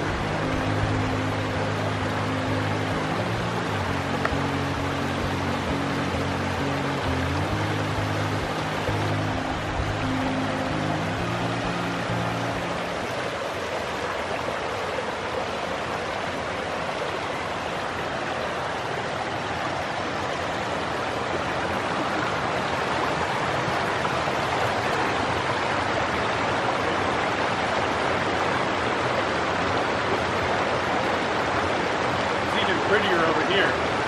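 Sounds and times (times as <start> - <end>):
waterfall and stream rushing: 0.0 - 34.0.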